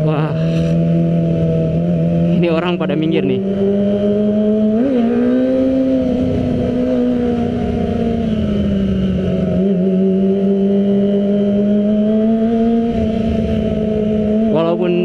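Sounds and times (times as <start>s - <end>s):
motorcycle engine at high pitch: 0.0s - 15.0s.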